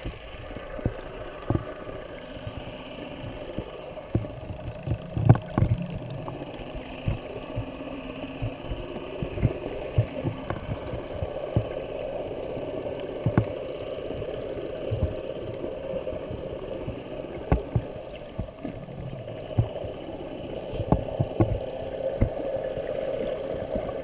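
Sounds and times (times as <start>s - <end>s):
dolphin clicks: 0.0s - 24.0s
dolphins whistling underwater: 0.0s - 24.0s
steady low hum: 0.0s - 24.0s.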